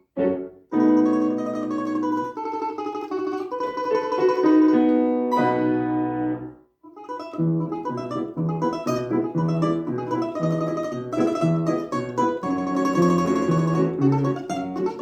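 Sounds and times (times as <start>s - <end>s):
piano accompaniment: 0.0s - 2.3s, 4.1s - 6.6s, 7.4s - 15.0s
plucked string instrument: 0.2s - 15.0s.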